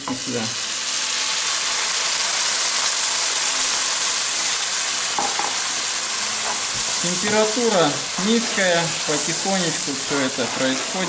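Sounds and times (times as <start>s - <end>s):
frying pan sizzling: 0.0s - 11.0s.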